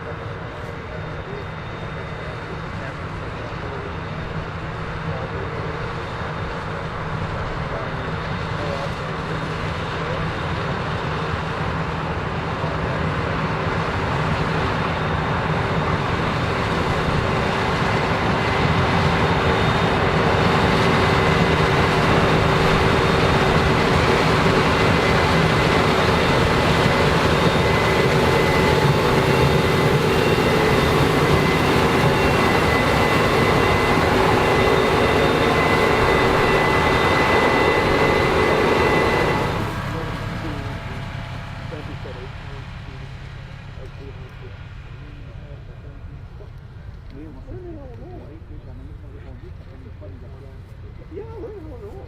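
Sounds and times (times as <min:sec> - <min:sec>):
combine harvester drone with whine: 0:00.0 - 0:52.0.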